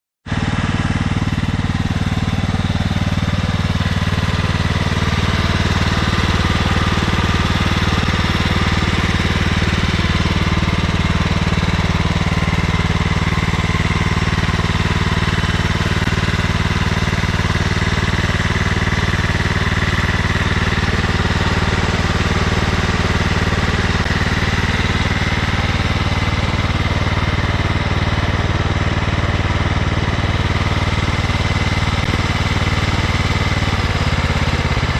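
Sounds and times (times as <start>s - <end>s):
lawn tractor engine running: 0.2s - 34.9s.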